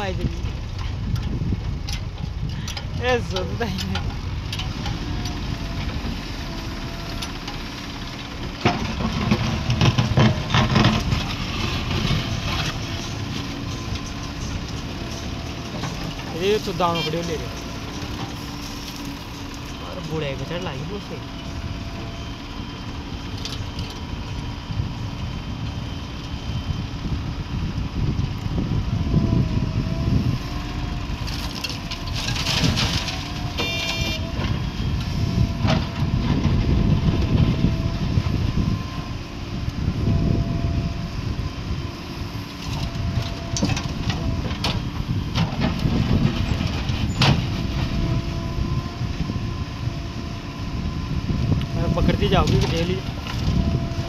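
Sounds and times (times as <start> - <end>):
diesel engine rumbling under load: 0.0 - 54.0.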